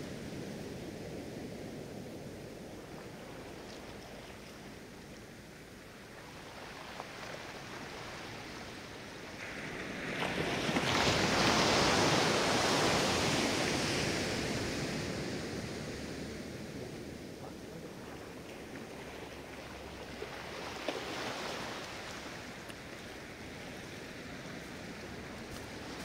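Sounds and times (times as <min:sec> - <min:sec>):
waves washing up a beach: 0:00.0 - 0:26.0.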